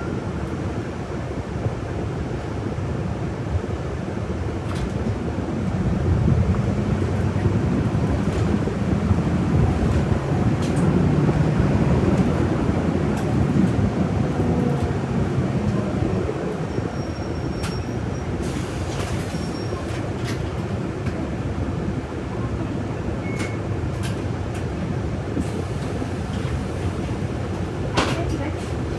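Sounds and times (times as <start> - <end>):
bus engine running: 0.0 - 28.9
road noise: 0.0 - 28.9.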